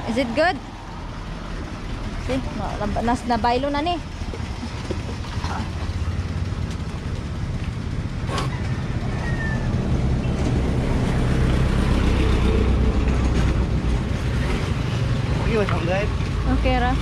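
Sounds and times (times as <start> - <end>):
small truck engine running: 0.0 - 17.0.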